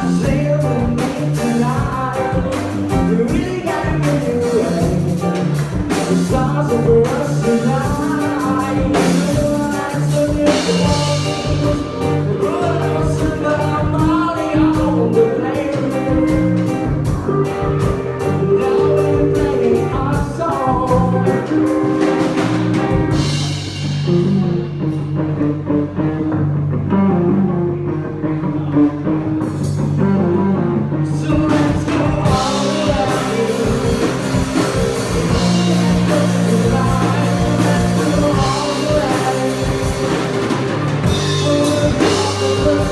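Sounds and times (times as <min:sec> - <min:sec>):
person singing: 0:00.0 - 0:25.1, 0:30.1 - 0:42.9
band playing: 0:00.0 - 0:42.9
drums: 0:00.0 - 0:42.9.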